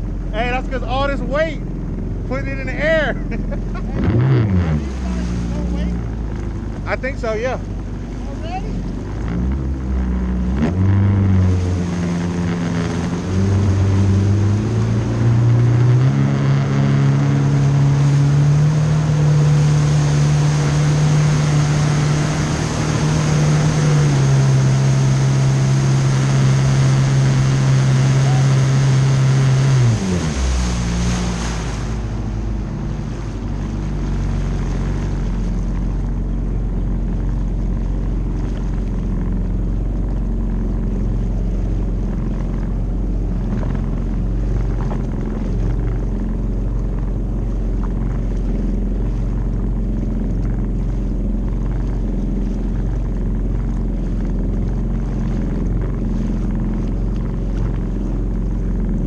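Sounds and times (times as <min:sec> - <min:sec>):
jet ski engine: 0:00.0 - 0:59.0.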